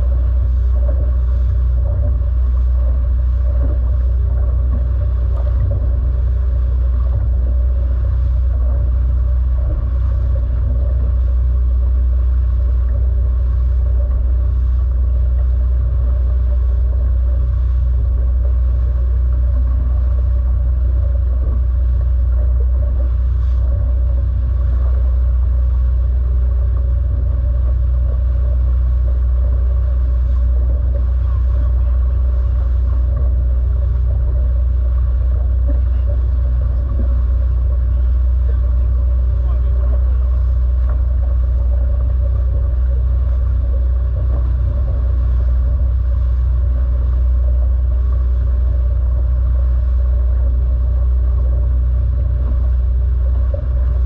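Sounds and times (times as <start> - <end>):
motorboat engine rumbling: 0.0 - 54.0
water rushing along hull: 0.0 - 54.0.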